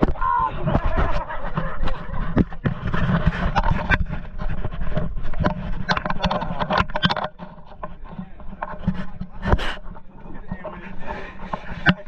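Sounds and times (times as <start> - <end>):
knocks and rattles: 0.0 - 12.0.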